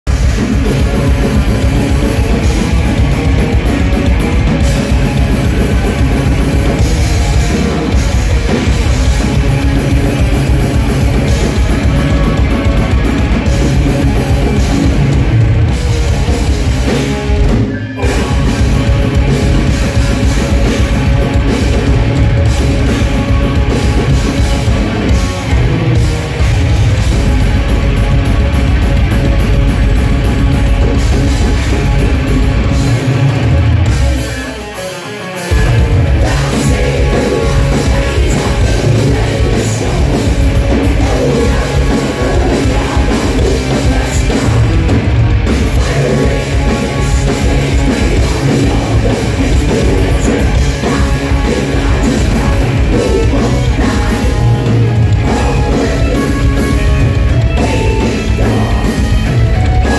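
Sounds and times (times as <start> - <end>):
metal band playing live: 0.0 - 59.9.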